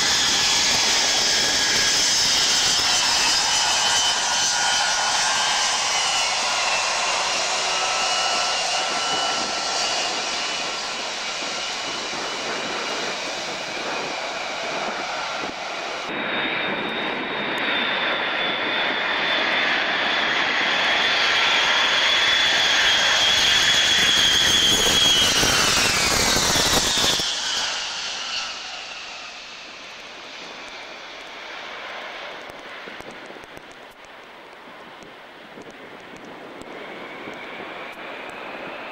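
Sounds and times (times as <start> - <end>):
jet engines on takeoff roll: 0.0 - 38.9
jetliner landing engine whine: 0.0 - 38.9.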